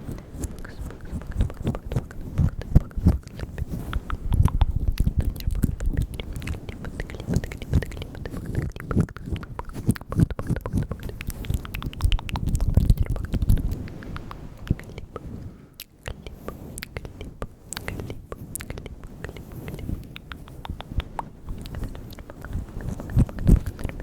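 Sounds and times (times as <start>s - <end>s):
wet mouth clicks and smacks: 0.0s - 24.0s.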